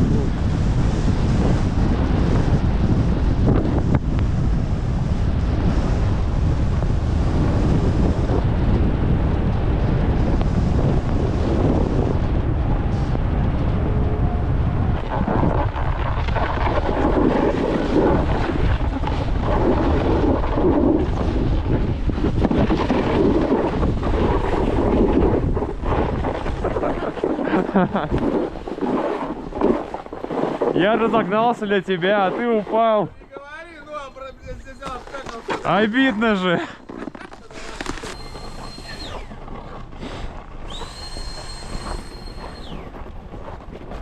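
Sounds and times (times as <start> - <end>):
blizzard wind buffeting microphone: 0.0 - 44.0.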